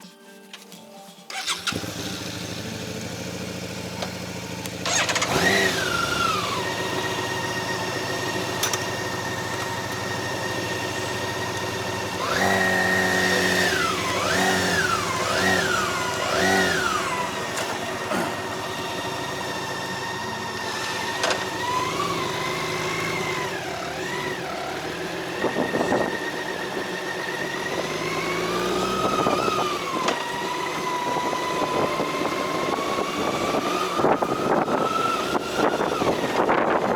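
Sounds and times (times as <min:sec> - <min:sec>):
motorcycle engine revving: 0:01.3 - 0:36.9.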